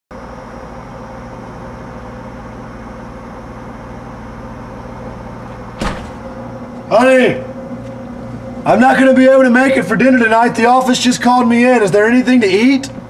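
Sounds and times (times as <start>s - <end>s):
background hum and hiss: 0.2s - 13.0s.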